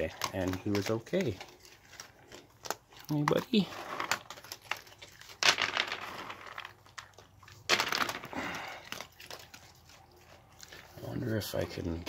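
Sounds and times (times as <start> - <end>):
raccoons crunching food: 0.0 - 12.0.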